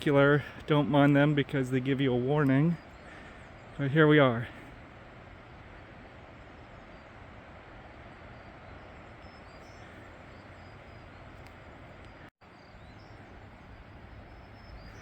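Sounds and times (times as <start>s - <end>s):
faint bird chirps: 2.4s - 15.0s.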